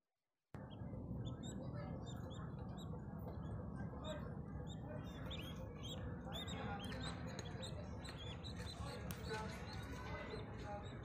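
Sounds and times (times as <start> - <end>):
budgerigar chicks peeping: 0.6 - 11.0
low background hum: 0.6 - 11.0.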